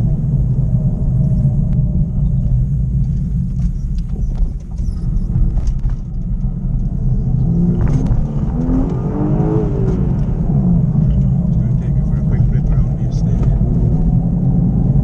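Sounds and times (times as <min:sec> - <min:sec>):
car engine droning and revving: 0:00.0 - 0:15.0.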